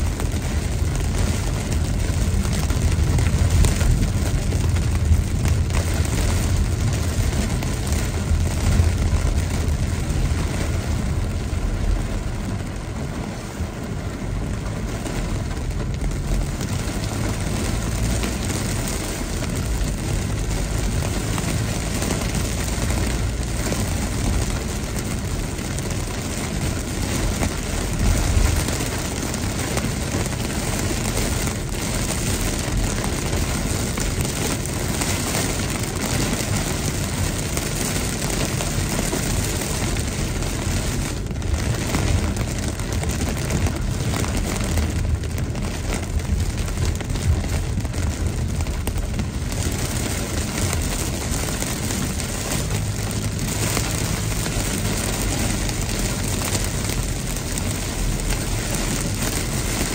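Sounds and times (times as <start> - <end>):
heavy rain drumming on car roof: 0.0 - 59.9
wind and road noise rumble: 0.0 - 59.9.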